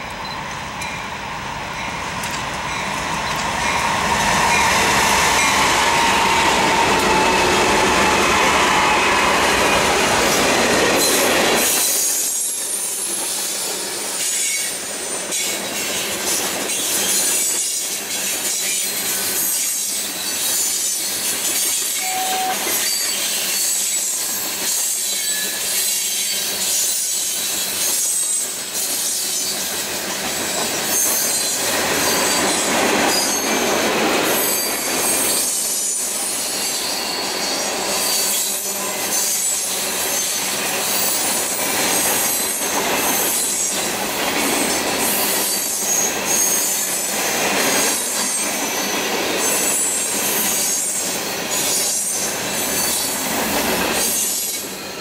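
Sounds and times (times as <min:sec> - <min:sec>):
high wheel squeal: 0:03.6 - 0:55.0.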